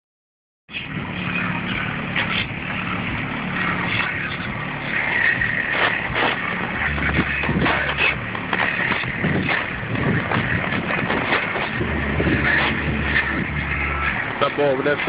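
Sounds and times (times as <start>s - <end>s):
car engine running: 0.7s - 15.0s
road and traffic noise: 0.7s - 15.0s.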